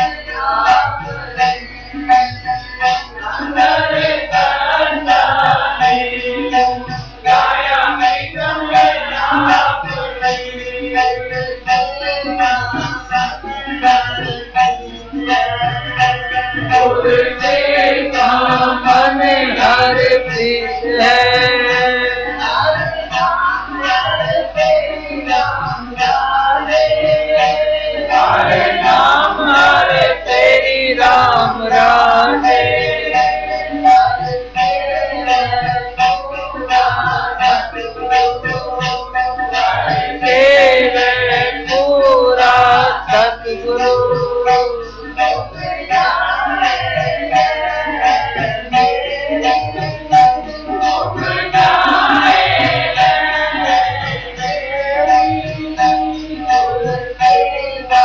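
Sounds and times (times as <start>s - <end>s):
harmoniums: 0.0s - 58.0s
men and women singing a hymn: 0.0s - 58.0s
tabla strokes: 0.0s - 58.0s.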